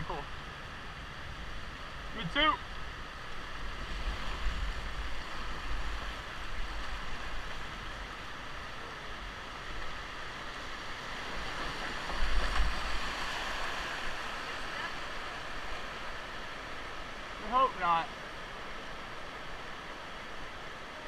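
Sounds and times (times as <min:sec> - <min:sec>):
river water rushing through rapids: 0:00.0 - 0:21.0.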